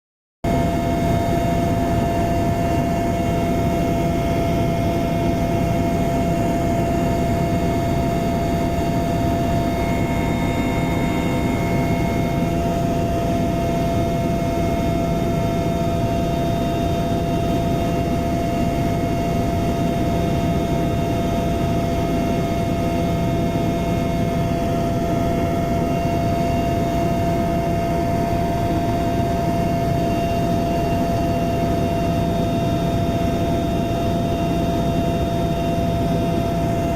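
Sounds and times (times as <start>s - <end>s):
helicopter engine and rotor drone: 0.4s - 36.9s.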